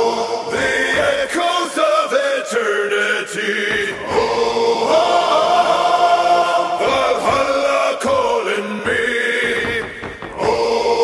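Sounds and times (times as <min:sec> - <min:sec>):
choral voices chanting held notes: 0:00.0 - 0:11.0.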